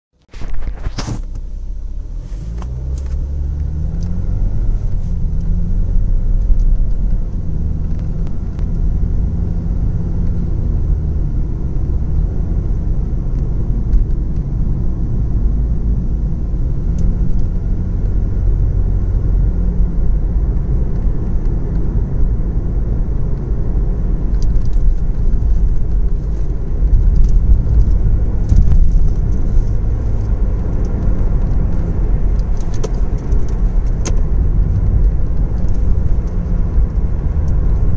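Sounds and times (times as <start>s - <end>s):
road noise inside car: 0.2s - 37.9s
car engine accelerating: 0.3s - 37.9s
engine ticking and tapping: 1.2s - 37.9s.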